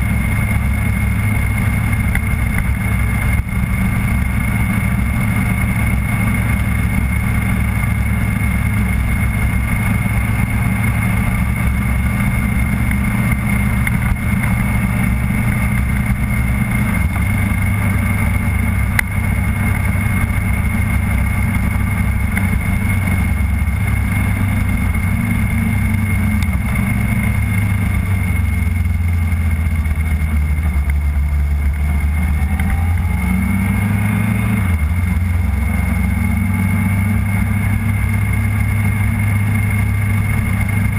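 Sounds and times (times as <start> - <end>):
vehicle engine running: 0.0 - 40.9
wind and road noise: 0.0 - 40.9.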